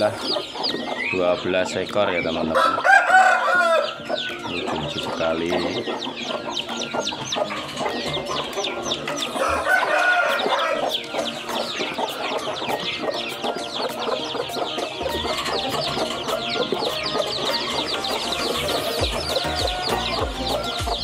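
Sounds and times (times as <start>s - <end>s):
adult chicken calling: 0.0s - 21.0s
chicks peeping: 0.0s - 21.0s.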